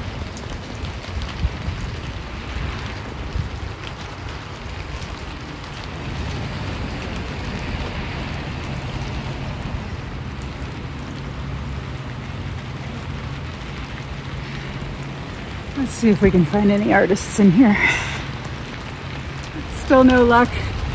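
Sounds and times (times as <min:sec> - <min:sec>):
low rumble: 0:00.0 - 0:20.9
rain on wet pavement: 0:00.0 - 0:20.9.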